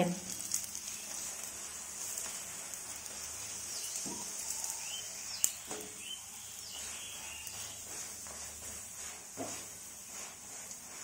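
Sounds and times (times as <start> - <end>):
flatbread sizzling in oil: 0.0 - 11.0.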